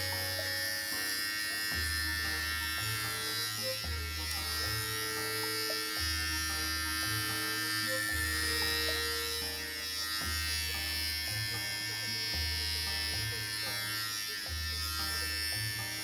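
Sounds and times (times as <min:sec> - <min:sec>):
electric clippers buzzing: 0:00.0 - 0:16.0.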